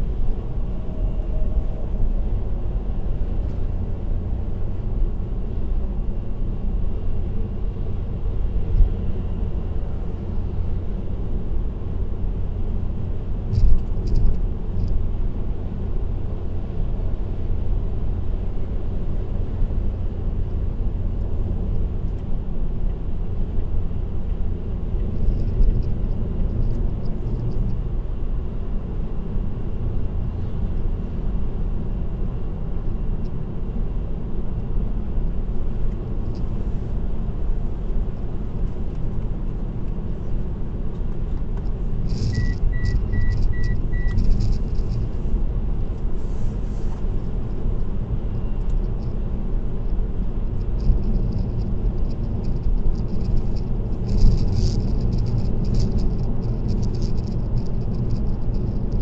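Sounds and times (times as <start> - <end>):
car tyre road noise: 0.0 - 59.0.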